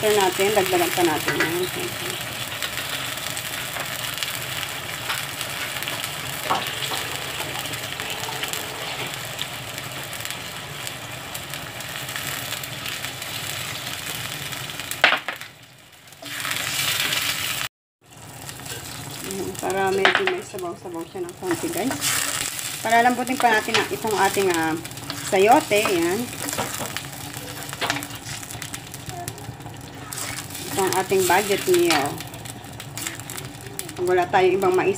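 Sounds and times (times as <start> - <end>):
food sizzling in a frying pan: 0.0 - 34.9.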